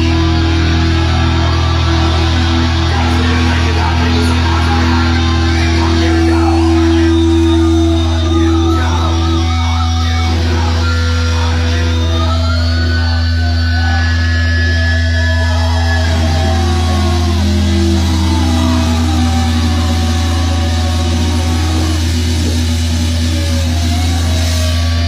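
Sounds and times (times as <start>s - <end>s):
death metal band playing: 0.0s - 25.0s.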